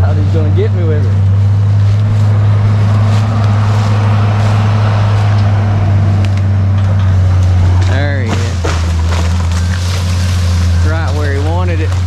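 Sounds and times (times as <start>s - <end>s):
heavy engine droning: 0.0s - 12.0s.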